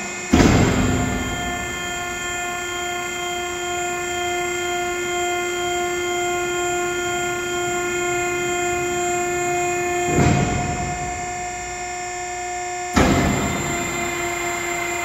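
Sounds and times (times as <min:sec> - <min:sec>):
machine power unit whining: 0:00.0 - 0:15.0.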